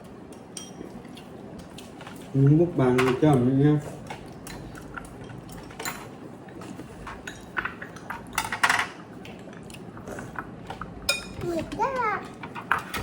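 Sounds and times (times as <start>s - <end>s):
utensils clinking against dishes: 0.3s - 9.0s, 10.1s - 13.0s.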